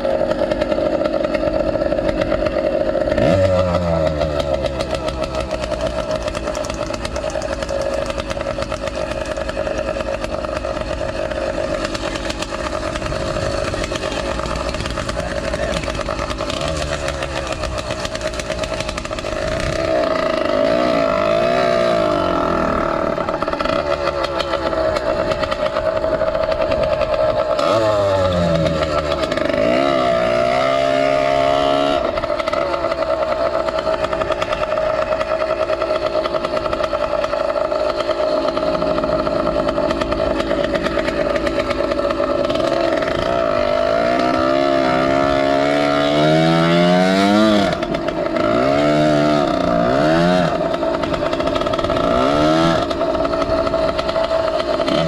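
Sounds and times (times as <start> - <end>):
two-stroke engine revving: 0.0 - 55.0.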